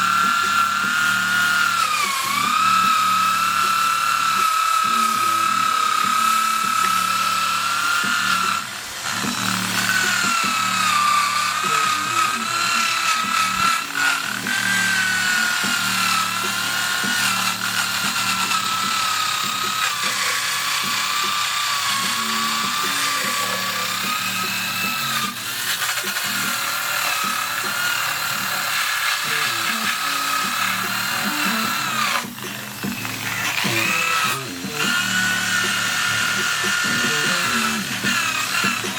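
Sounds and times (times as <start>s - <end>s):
power tool motor whine: 0.0s - 38.9s.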